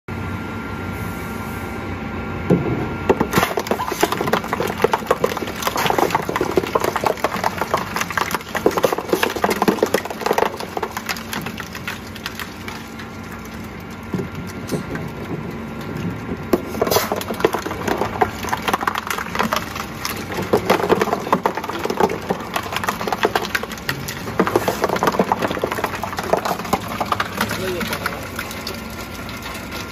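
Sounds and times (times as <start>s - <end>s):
motor and gearbox hum: 1.8s - 29.9s.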